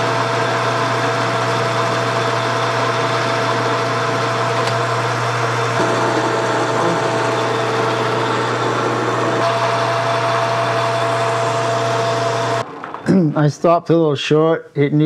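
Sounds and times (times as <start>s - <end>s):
metal lathe humming: 0.0s - 12.7s.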